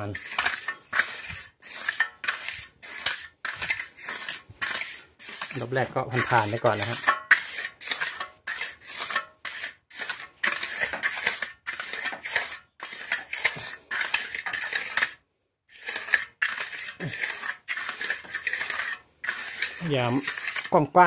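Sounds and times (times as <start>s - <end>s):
trowel scraping wet cement: 0.0s - 21.0s.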